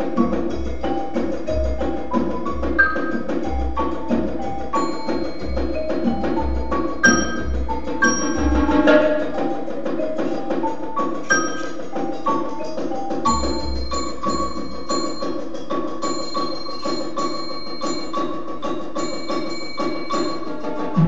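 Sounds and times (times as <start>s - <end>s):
marimba and mallet percussion: 0.0s - 21.0s
ringing bell-like high notes: 0.0s - 21.0s.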